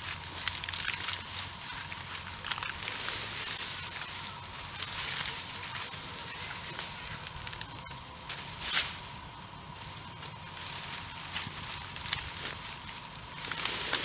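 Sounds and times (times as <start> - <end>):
grass and leaves rustling: 0.0 - 14.0.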